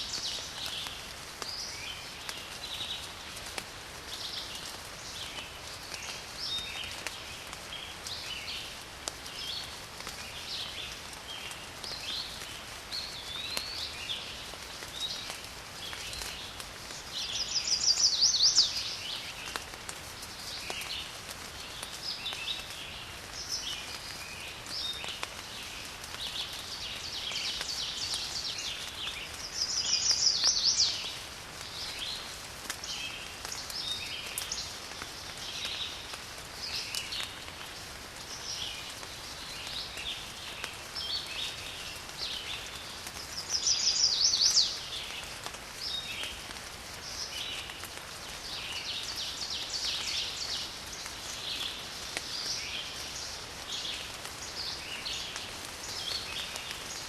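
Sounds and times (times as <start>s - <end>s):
steady rain: 0.0s - 57.0s
small birds calling: 9.3s - 37.5s, 38.2s - 57.0s.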